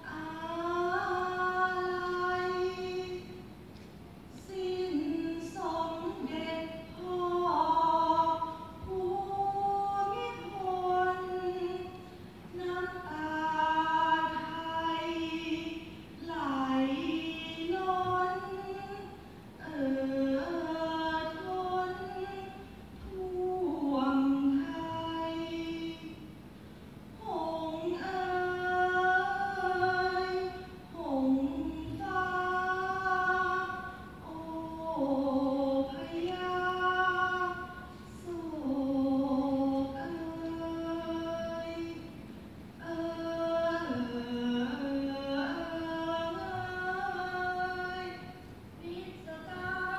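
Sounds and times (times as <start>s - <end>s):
woman singing folk song: 0.0s - 3.6s, 4.3s - 26.3s, 27.2s - 49.9s.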